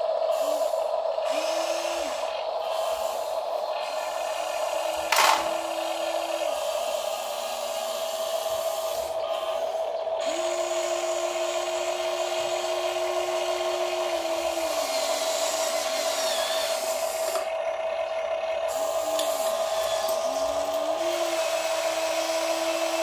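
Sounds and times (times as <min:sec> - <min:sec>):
high electric motor whine: 0:00.0 - 0:23.0
lower motor tone: 0:01.2 - 0:23.0.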